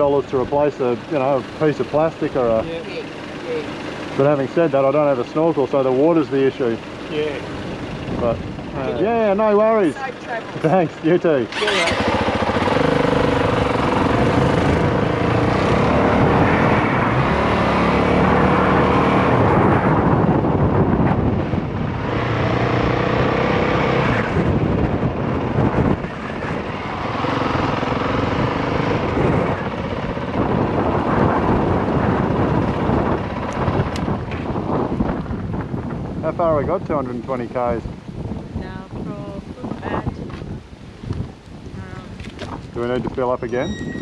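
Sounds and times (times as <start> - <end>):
dirt bike engine running: 0.0 - 36.6.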